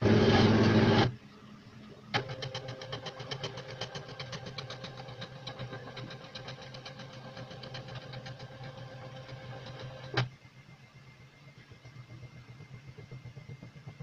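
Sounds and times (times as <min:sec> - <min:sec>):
steady motor hum: 0:00.0 - 0:14.0.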